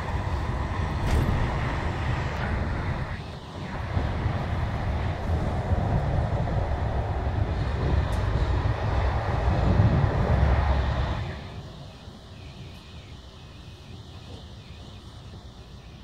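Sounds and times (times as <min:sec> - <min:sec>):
train rumble from inside carriage: 0:00.0 - 0:16.0.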